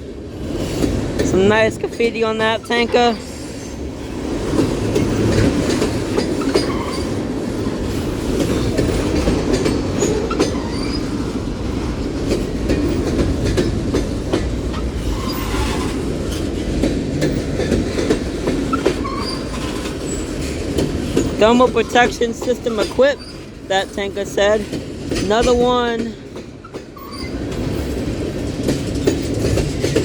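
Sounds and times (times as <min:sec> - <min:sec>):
train wheels rumbling on rails: 0:00.0 - 0:30.0
wheels clicking over rail joints: 0:00.4 - 0:30.0.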